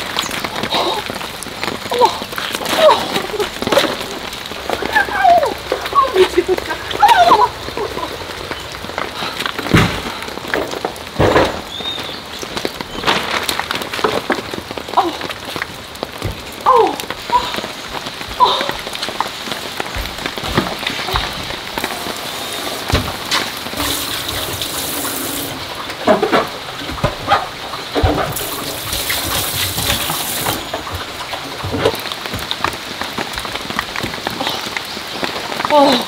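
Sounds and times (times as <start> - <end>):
heavy rain falling: 0.0 - 36.0
raindrops ticking on surfaces: 0.0 - 36.0.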